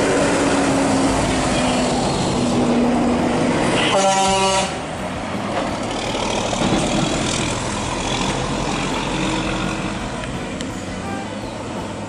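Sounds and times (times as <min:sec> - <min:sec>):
truck engine driving past: 0:00.0 - 0:12.0
tyre and road noise: 0:00.0 - 0:12.0.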